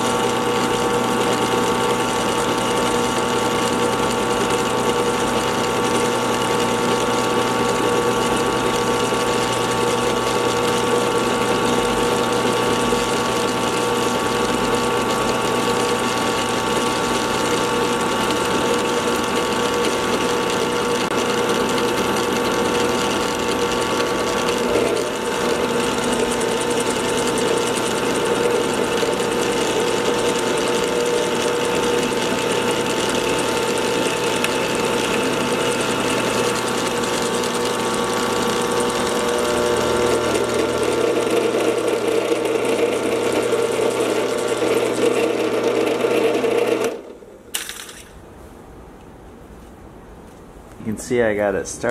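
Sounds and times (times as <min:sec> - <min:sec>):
drill press running: 0:00.0 - 0:48.2.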